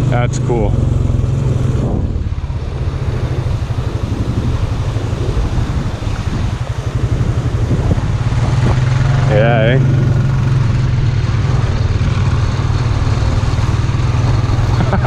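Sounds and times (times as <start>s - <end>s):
atv engine running: 0.0s - 15.0s
wind noise hiss: 1.3s - 15.0s.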